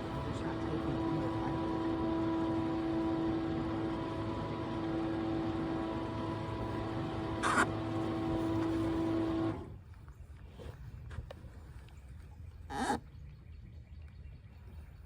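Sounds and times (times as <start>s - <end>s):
boat motor humming: 0.0s - 13.4s.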